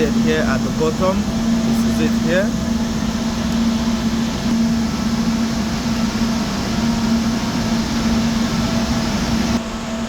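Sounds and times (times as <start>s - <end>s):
constant low hum: 0.0s - 10.0s
cooling fans whirring: 0.0s - 10.0s.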